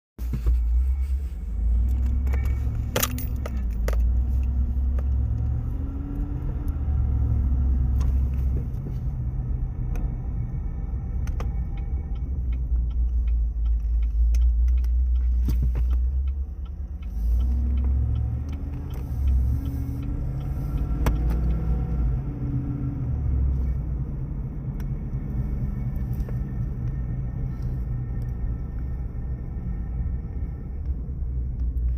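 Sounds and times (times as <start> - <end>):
car engine revving: 0.8 - 31.9.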